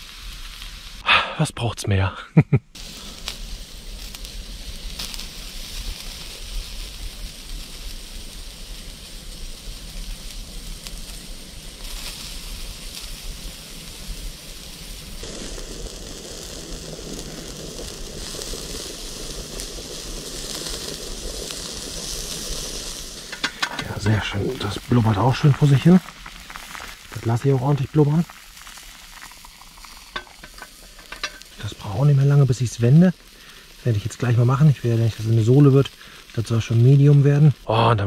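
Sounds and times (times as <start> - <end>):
steak sizzling on a grill: 0.0 - 1.1, 2.8 - 38.0
vegetables bubbling in a pot: 2.8 - 38.0.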